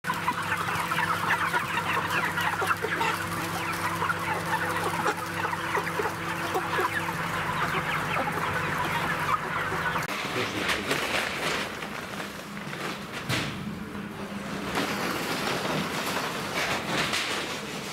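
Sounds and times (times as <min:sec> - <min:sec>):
chickens clucking and chirping: 0:00.0 - 0:11.9, 0:13.9 - 0:17.9
machine hum: 0:00.0 - 0:17.9.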